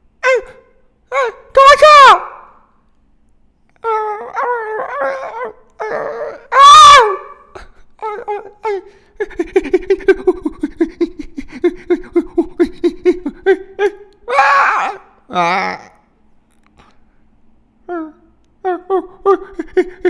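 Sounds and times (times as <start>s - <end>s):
person wailing cries: 0.2s - 2.4s, 3.8s - 16.0s, 17.9s - 20.0s.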